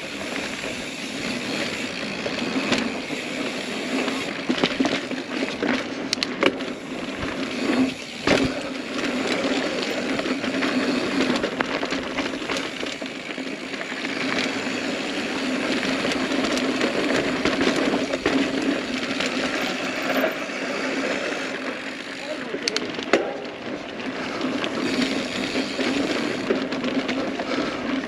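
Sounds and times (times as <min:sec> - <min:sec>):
bike rattling: 0:00.0 - 0:28.0
bike tyres rolling over dirt: 0:00.0 - 0:28.0.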